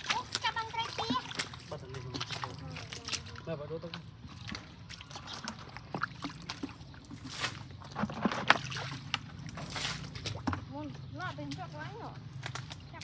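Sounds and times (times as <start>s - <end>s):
muddy water sloshing and splashing: 0.0s - 13.0s.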